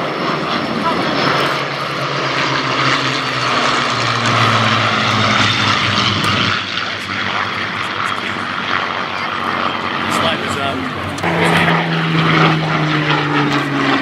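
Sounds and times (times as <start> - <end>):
propeller planes droning past: 0.0 - 14.0.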